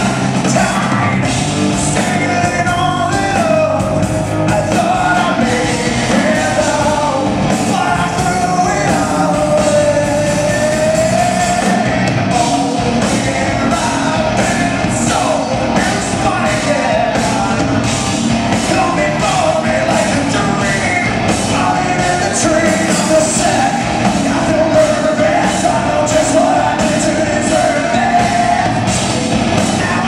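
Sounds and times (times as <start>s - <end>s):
man singing: 0.0s - 28.9s, 29.6s - 30.0s
rock band playing live: 0.0s - 30.0s.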